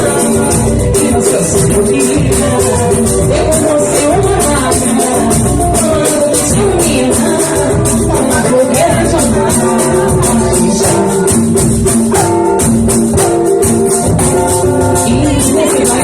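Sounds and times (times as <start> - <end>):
music with shaker beat: 0.0 - 16.0.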